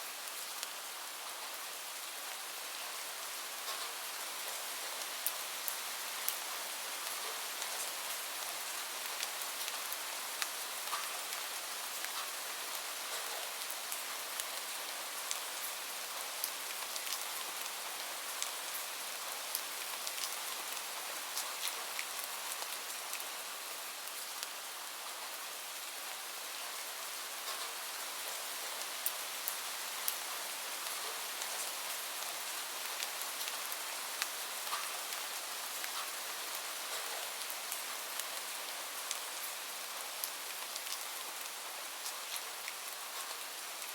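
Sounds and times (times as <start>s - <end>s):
rain hiss: 0.0s - 43.9s.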